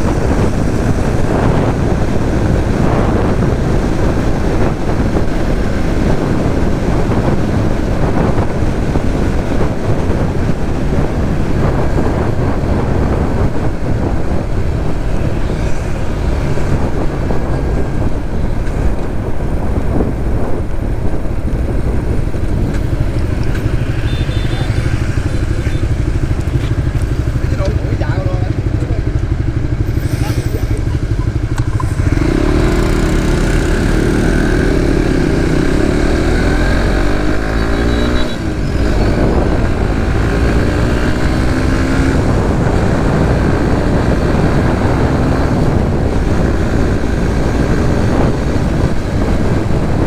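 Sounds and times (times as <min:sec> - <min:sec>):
motorcycle engine running: 0:00.0 - 0:50.0
road noise: 0:00.0 - 0:50.0
wind noise: 0:00.0 - 0:50.0.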